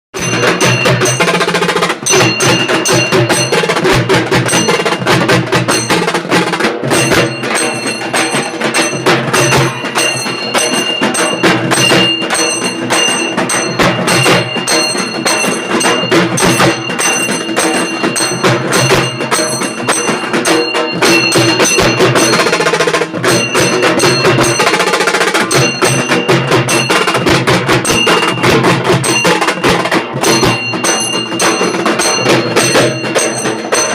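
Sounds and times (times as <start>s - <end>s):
frame drums fast rhythm: 0.1s - 33.9s
high metallic ringing: 0.2s - 33.9s.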